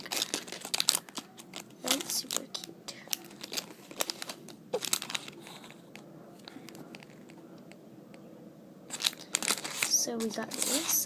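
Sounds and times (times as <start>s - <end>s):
plastic packaging crinkling: 0.0s - 7.4s, 8.9s - 11.0s.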